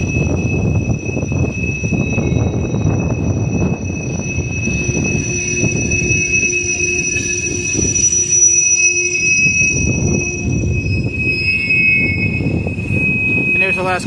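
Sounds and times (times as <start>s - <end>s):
high-pitched wheel squeal: 0.0s - 14.0s
train wheels rumbling on rail: 0.0s - 14.0s.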